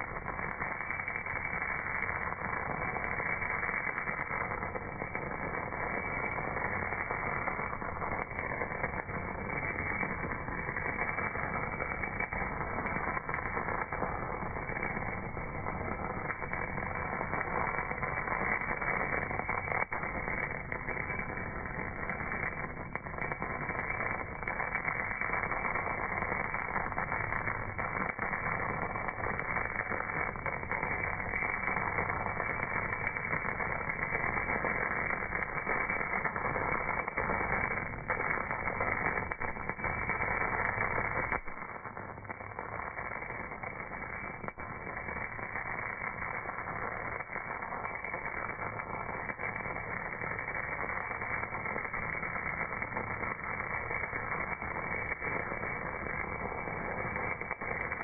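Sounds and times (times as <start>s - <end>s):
welding arc crackling hiss: 0.0s - 58.0s.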